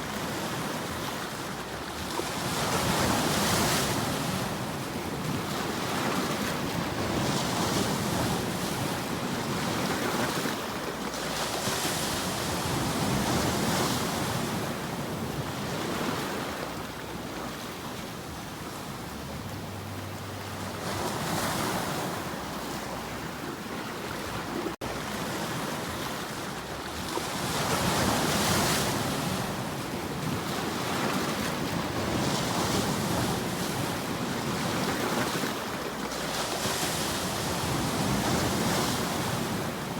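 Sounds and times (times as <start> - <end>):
ocean surf washing: 0.0 - 39.9
wind: 0.0 - 39.9.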